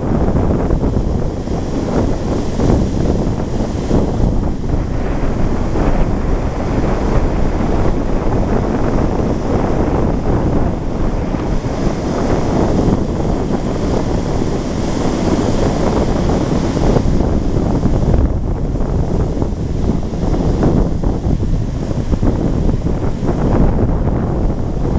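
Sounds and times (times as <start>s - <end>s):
surf breaking on beach: 0.0s - 24.9s
wind buffeting microphone: 0.0s - 24.9s.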